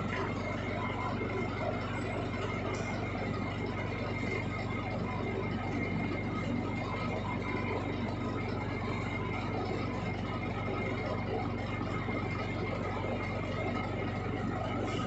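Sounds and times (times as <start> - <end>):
lathe motor and gear hum: 0.0 - 15.0.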